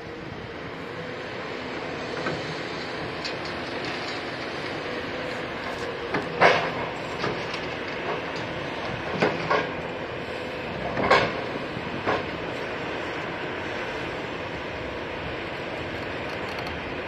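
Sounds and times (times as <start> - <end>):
excavator running: 0.0 - 17.0.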